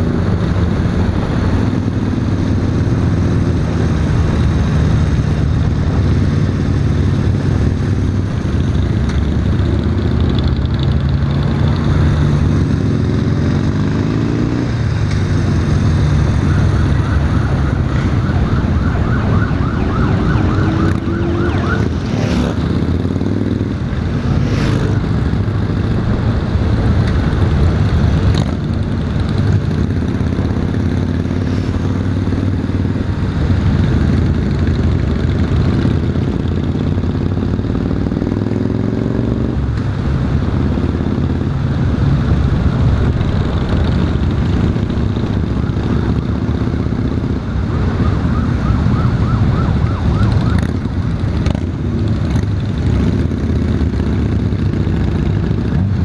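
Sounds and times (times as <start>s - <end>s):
motorcycle engine accelerating: 0.0s - 56.0s
other motorcycles: 0.0s - 56.0s.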